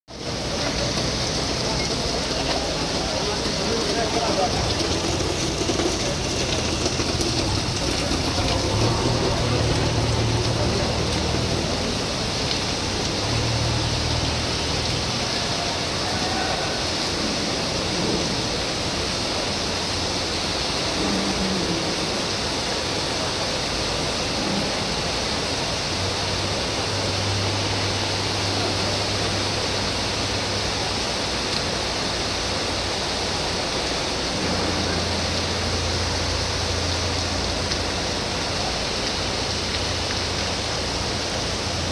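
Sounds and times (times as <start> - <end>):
heavy rain pouring: 0.1 - 41.9.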